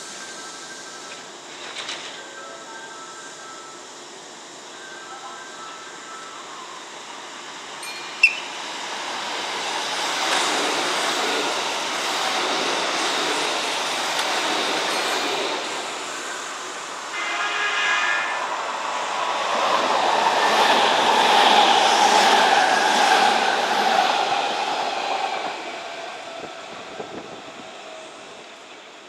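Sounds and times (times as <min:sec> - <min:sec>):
electric train rumbling on tracks: 0:00.0 - 0:29.0
train whine: 0:00.0 - 0:29.0.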